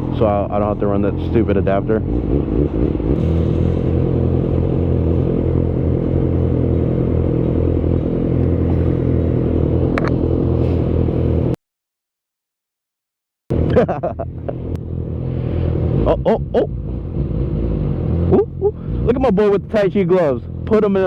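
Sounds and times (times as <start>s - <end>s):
motorcycle engine running: 0.0s - 11.6s, 13.5s - 21.0s.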